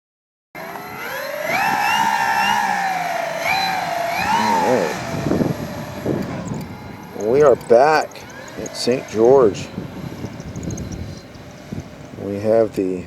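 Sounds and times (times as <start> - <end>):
model plane propeller whine: 0.6 - 13.0.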